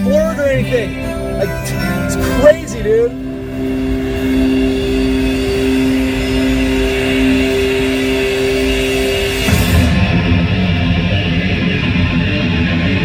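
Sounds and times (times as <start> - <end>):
hard rock music from car stereo: 0.0 - 13.0.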